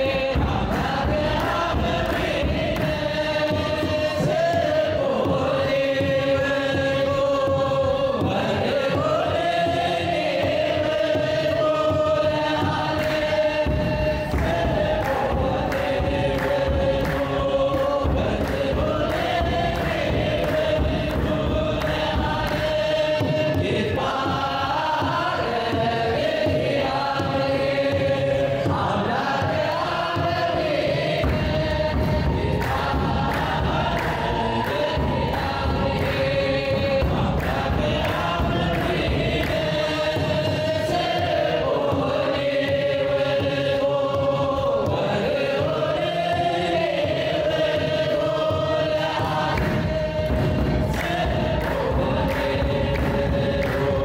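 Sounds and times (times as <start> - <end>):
choir singing a hymn: 0.0 - 54.0
drum beat: 0.0 - 54.0.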